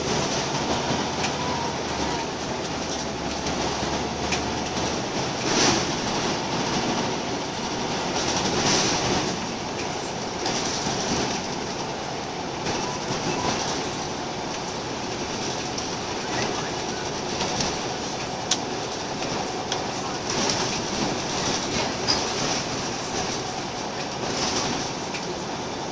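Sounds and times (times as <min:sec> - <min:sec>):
bus engine and road noise: 0:00.0 - 0:25.9
body and fittings rattling: 0:02.1 - 0:25.2.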